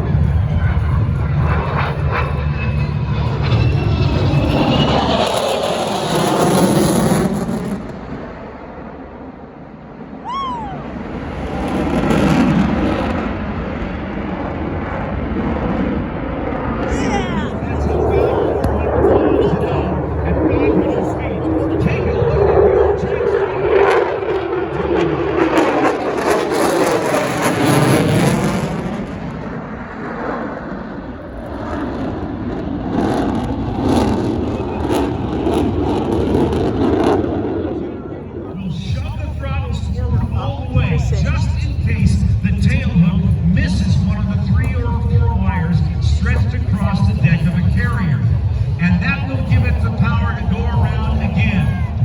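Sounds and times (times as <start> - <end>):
jet engine roaring in flight: 0.0 - 52.0.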